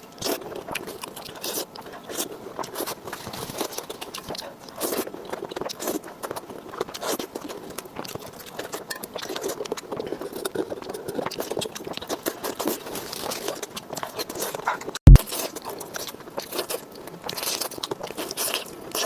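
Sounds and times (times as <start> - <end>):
crunching bites and chewing: 0.0 - 19.0.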